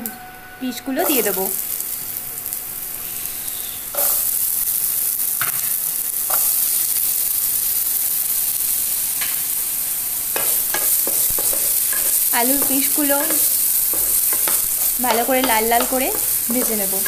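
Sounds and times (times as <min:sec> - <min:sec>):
potatoes sizzling in oil: 0:00.7 - 0:17.0.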